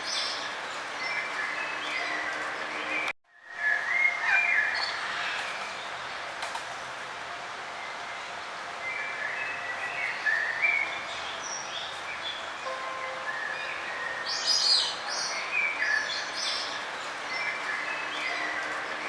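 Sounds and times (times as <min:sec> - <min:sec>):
songbirds chirping and trilling: 0:00.0 - 0:06.8, 0:07.7 - 0:19.0.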